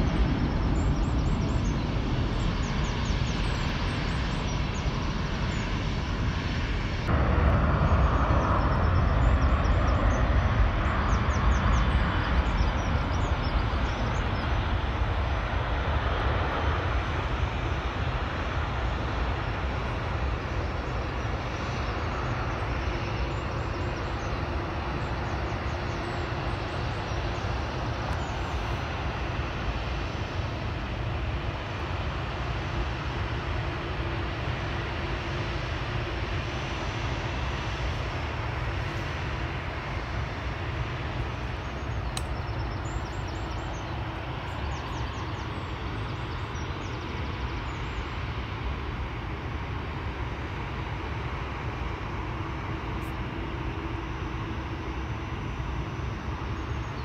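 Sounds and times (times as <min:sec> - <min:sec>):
jet airliner engines running: 0:00.0 - 0:57.0.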